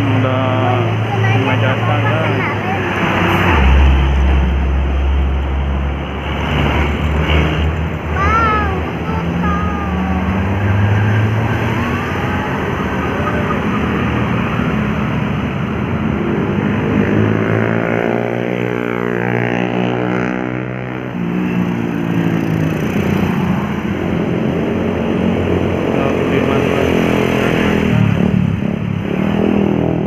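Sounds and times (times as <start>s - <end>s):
vehicle engines running: 0.0s - 30.0s
vehicle passing close: 0.0s - 30.0s.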